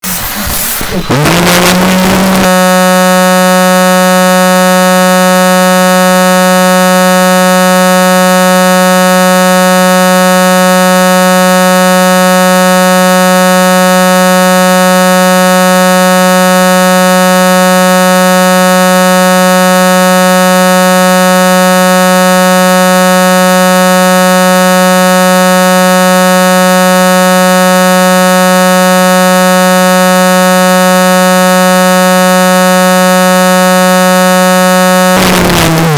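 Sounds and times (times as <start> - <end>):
loud buzzy horn tone: 0.0 - 35.9.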